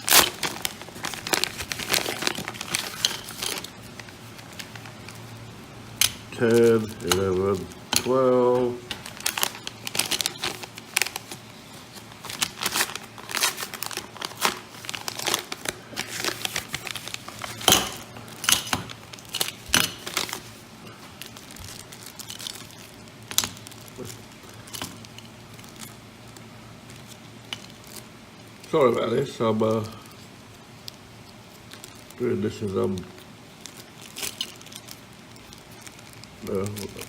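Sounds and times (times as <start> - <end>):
packaging crinkling and tearing: 0.0 - 5.4, 6.0 - 37.0.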